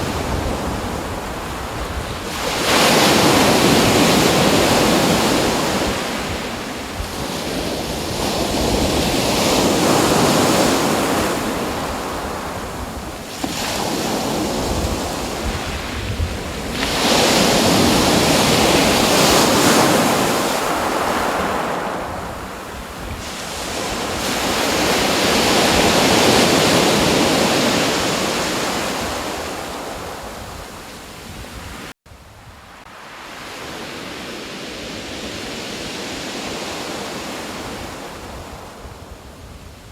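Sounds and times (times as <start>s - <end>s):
waves washing in: 0.0s - 39.9s.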